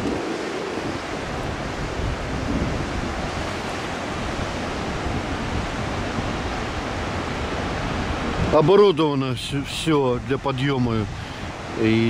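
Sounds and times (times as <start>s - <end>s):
surf breaking on rocks: 0.0s - 12.0s
wind on microphone: 0.0s - 12.0s.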